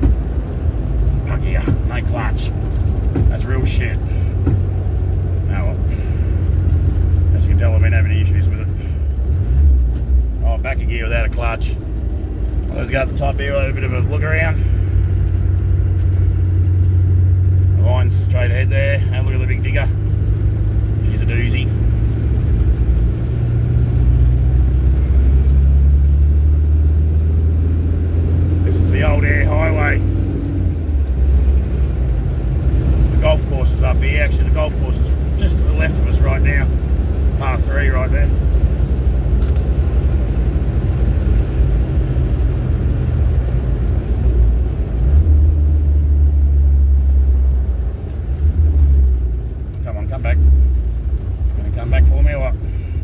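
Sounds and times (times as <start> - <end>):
diesel engine droning: 0.0 - 53.0
road noise: 0.0 - 53.0.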